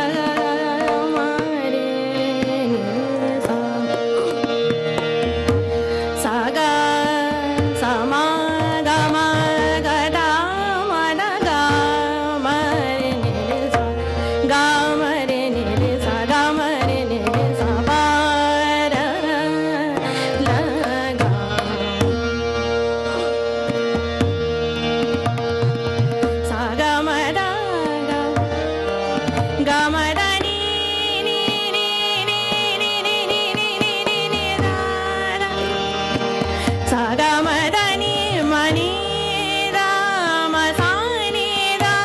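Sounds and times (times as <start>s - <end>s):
woman singing ornamented melody: 0.0s - 5.4s, 6.0s - 22.2s, 26.3s - 42.0s
tabla rhythm: 0.0s - 42.0s
tanpura and harmonium drone: 0.0s - 42.0s.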